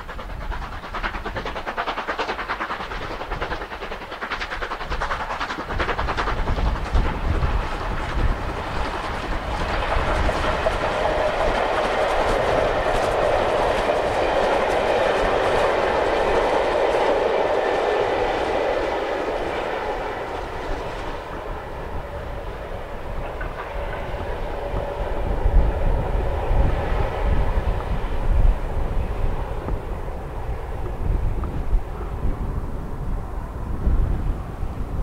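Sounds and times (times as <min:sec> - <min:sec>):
steam locomotive passing: 0:00.0 - 0:35.0
wind rumble on microphone: 0:00.0 - 0:35.0.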